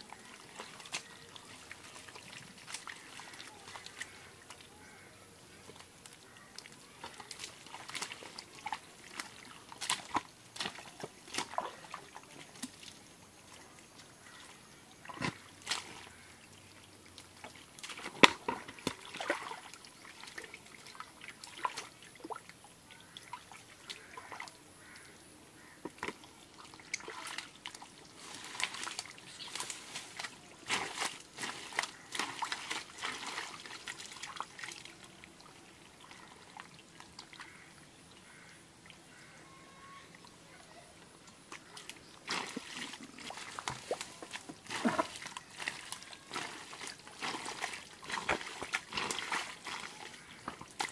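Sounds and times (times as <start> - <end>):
hands squelching in wet mud: 0.0 - 5.0, 5.6 - 25.0, 25.6 - 37.6, 41.1 - 50.9.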